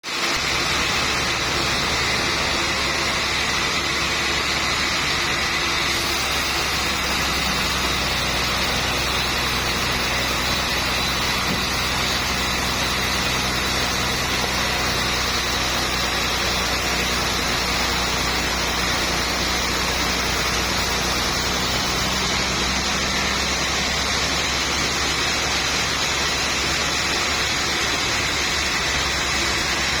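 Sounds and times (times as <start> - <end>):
sawmill machinery running: 0.0 - 30.0.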